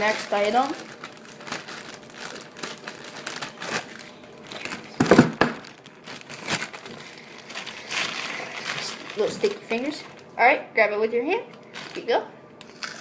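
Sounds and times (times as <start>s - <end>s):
plastic packaging crinkling: 0.0s - 10.3s, 11.5s - 13.0s.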